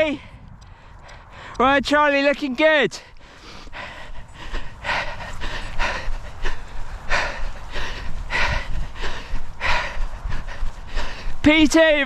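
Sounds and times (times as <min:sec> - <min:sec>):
person panting: 0:00.0 - 0:01.7, 0:02.9 - 0:12.0.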